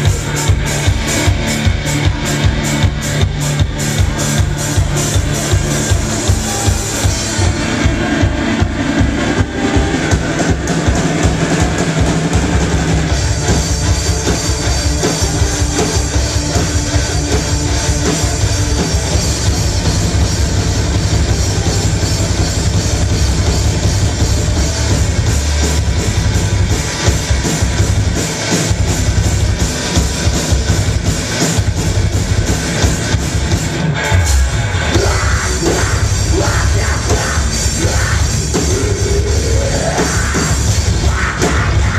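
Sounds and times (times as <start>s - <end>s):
bass guitar: 0.0s - 41.9s
drum kit pounding: 0.0s - 41.9s
electric guitars: 0.0s - 41.9s.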